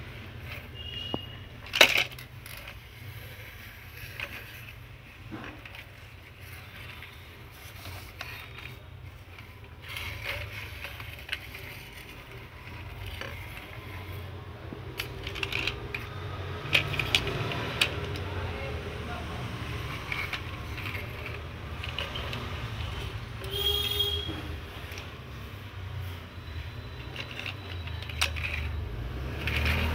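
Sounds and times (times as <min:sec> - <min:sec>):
plastic toys clicking on hard floor: 0:00.0 - 0:29.9.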